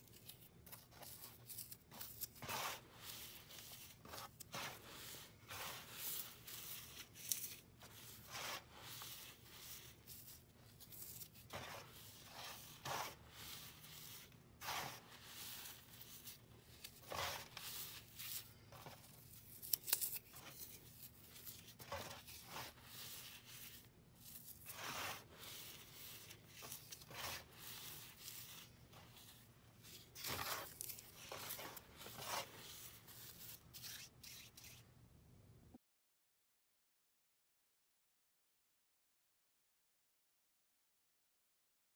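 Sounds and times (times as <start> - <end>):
dry floral foam crunching: 0.1 - 34.0.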